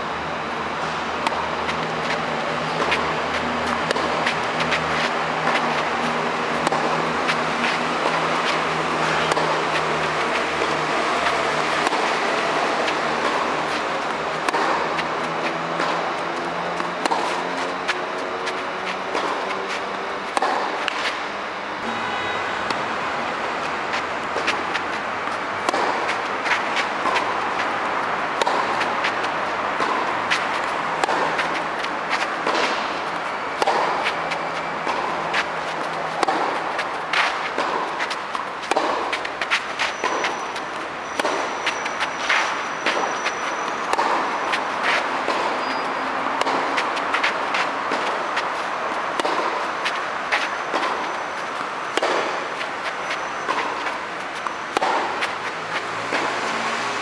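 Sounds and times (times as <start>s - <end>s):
steady background noise: 0.0s - 57.0s
racket striking tennis ball: 1.0s - 22.1s, 22.7s - 56.8s
ball bouncing: 1.2s - 22.0s, 23.4s - 56.7s
quick footsteps: 1.4s - 21.3s, 23.3s - 57.0s.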